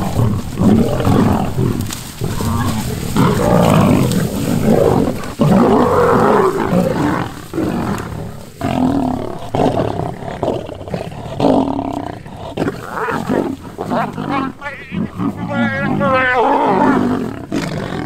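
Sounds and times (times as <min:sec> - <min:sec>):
lions growling while feeding: 0:00.0 - 0:18.0.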